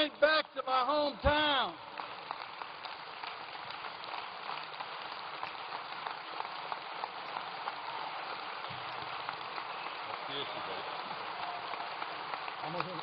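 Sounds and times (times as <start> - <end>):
crowd applauding: 0.8 - 13.0.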